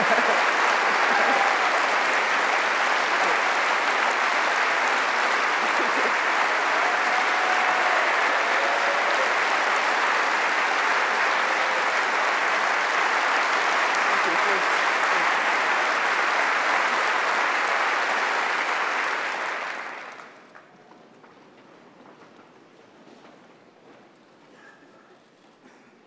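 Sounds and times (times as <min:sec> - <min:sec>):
large audience applauding: 0:00.0 - 0:20.9.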